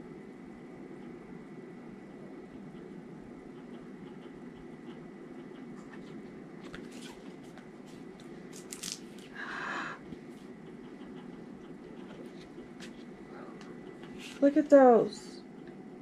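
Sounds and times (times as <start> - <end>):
low steady background hum: 0.0 - 16.0.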